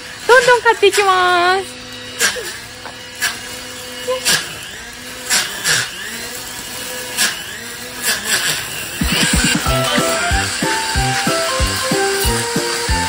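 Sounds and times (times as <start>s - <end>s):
brush cutter motor whine: 0.0s - 13.0s.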